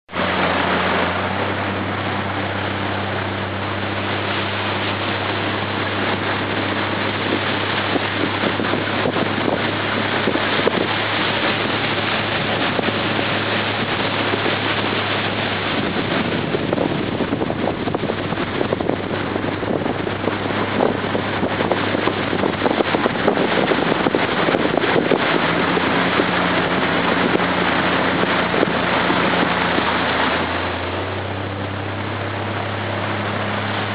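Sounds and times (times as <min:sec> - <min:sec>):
motorboat engine drone: 0:00.1 - 0:33.9
water rushing: 0:00.1 - 0:33.9
wind on microphone: 0:00.1 - 0:33.9.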